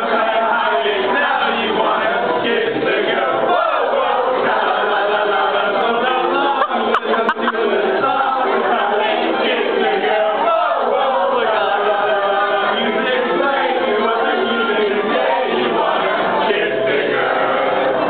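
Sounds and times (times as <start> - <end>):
men singing in chorus: 0.0 - 18.0.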